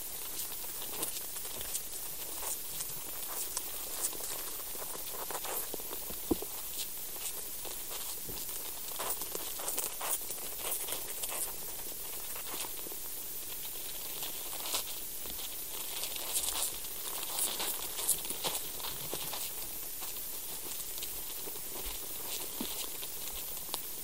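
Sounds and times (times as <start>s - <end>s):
scratching and crackling in soil: 0.0s - 24.0s
steady hiss: 0.0s - 24.0s.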